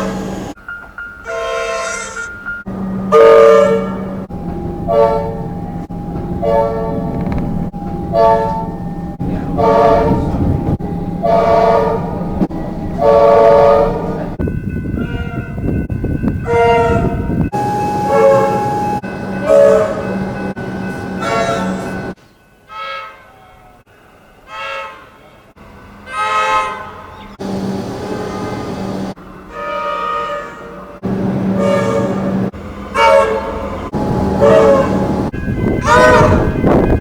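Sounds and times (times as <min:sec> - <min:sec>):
electric train horn blasts: 0:01.3 - 0:07.2, 0:08.1 - 0:08.8, 0:09.4 - 0:10.6, 0:11.2 - 0:12.4, 0:13.0 - 0:14.4, 0:16.4 - 0:23.2, 0:24.4 - 0:37.0.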